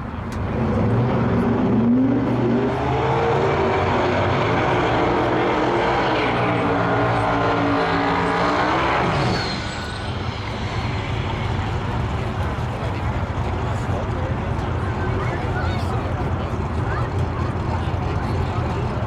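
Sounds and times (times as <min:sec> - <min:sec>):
drag cars accelerating: 0:00.0 - 0:19.0.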